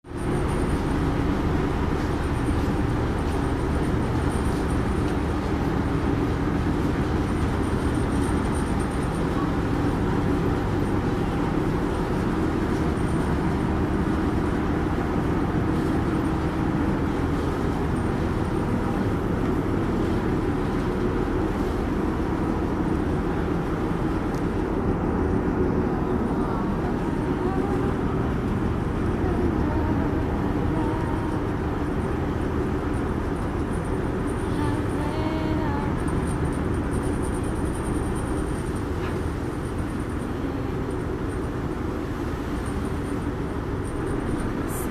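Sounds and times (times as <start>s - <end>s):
ferry engine low drone: 0.0s - 44.9s.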